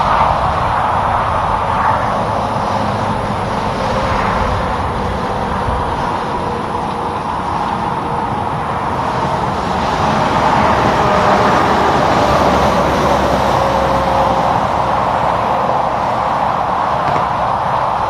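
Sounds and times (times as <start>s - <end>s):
heavy truck driving past: 0.0s - 18.0s.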